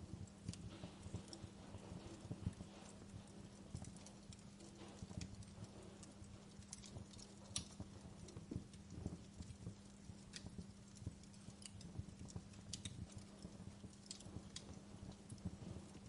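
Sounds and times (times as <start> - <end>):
faint steady hum: 0.0 - 16.0
wood fire crackling: 0.0 - 16.0.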